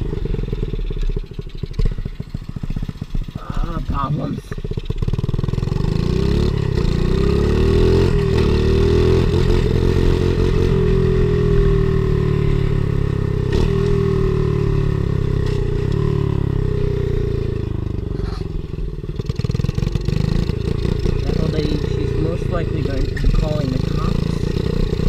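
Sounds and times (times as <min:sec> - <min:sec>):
small motorcycle engine revving: 0:00.0 - 0:25.0.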